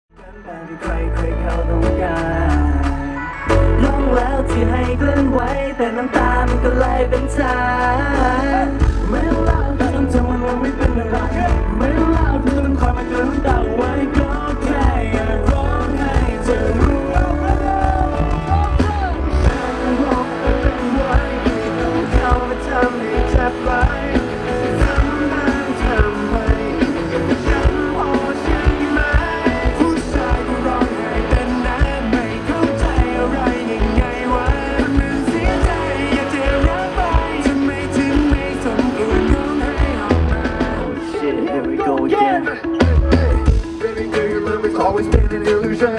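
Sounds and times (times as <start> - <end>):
live pop-rock band with drums: 0.1 - 45.9
male vocal group singing: 0.2 - 45.9.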